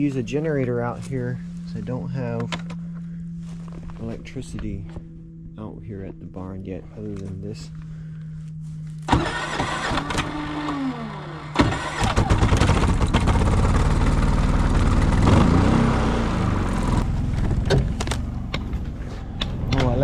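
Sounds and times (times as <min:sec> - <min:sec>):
generator engine starting and running: 0:00.0 - 0:20.0.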